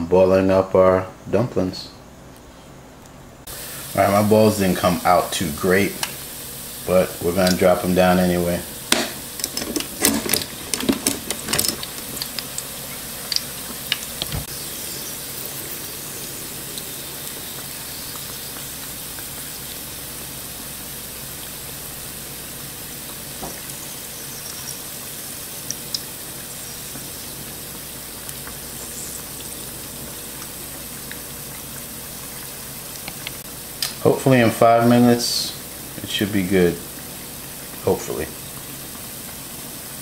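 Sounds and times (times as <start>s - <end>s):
dumplings frying in bubbling oil: 3.4s - 40.0s.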